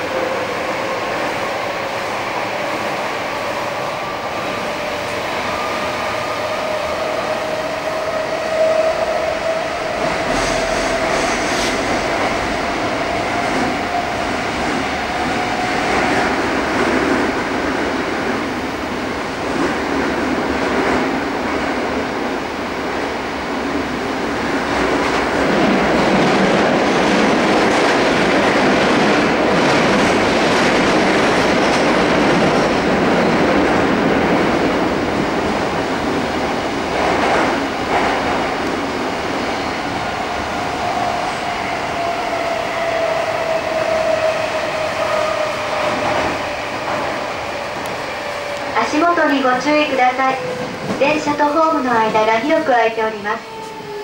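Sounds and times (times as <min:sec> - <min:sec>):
train rumbling in a tunnel: 0:00.0 - 0:54.0.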